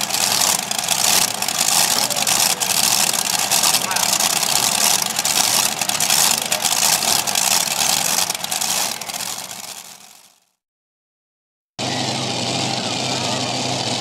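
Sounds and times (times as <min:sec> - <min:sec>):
tractor engines idling: 0:00.0 - 0:10.5, 0:11.8 - 0:14.0.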